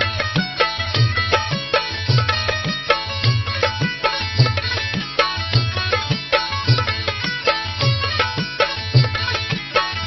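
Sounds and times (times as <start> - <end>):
music with steady drum beat: 0.0 - 10.0.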